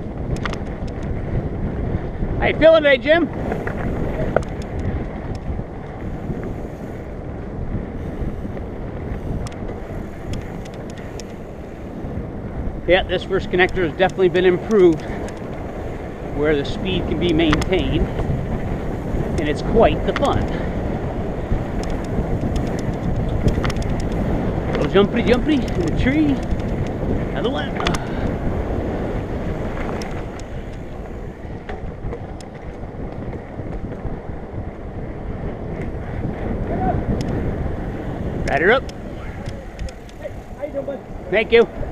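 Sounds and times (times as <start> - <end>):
bike clicks and rattles: 0.0 - 41.9
off-road vehicle rumble: 0.0 - 41.9
wind rushing over microphone: 0.0 - 41.9.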